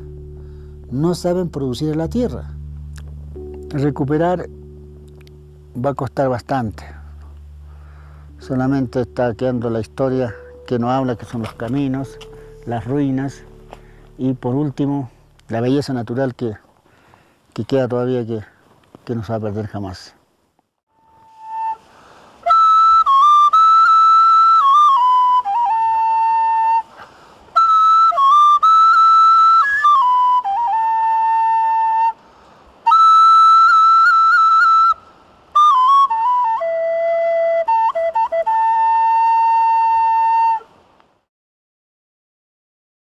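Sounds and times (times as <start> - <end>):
solo flute melody: 0.0 - 15.8, 20.9 - 40.9.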